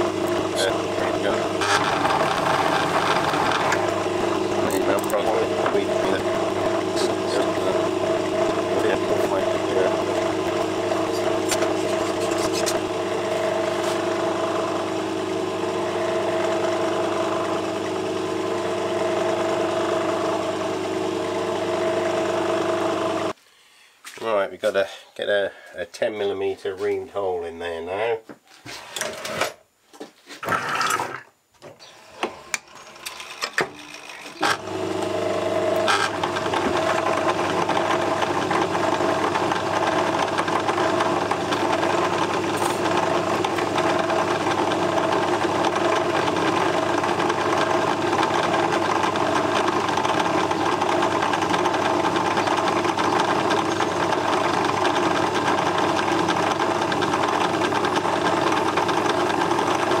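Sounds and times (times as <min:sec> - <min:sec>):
drill boring into brass: 0:00.0 - 0:23.4, 0:32.8 - 1:00.0
metal lathe running: 0:00.0 - 0:23.4, 0:32.6 - 1:00.0.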